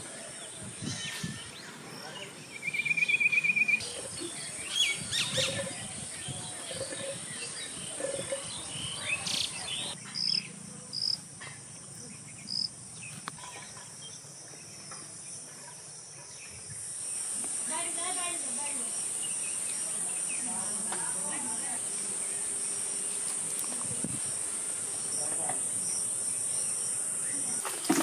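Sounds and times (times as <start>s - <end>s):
birds chirping: 0.0s - 28.0s
insects droning: 0.0s - 28.0s.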